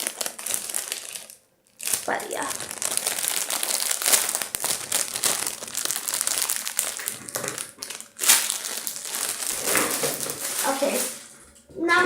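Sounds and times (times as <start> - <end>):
crinkly material crumpling: 0.0 - 11.5.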